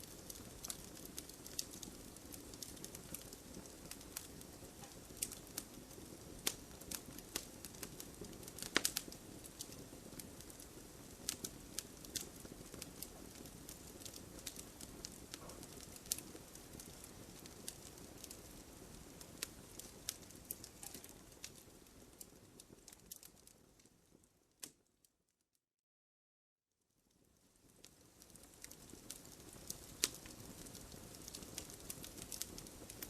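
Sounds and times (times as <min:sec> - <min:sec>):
wood fire crackling: 0:00.0 - 0:24.9, 0:26.8 - 0:33.0.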